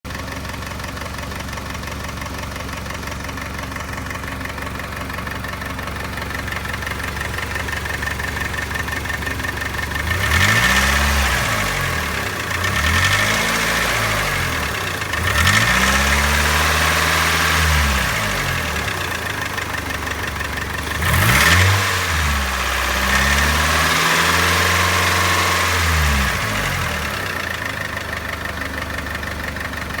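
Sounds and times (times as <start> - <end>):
car engine idling with tapping: 0.1 - 30.0.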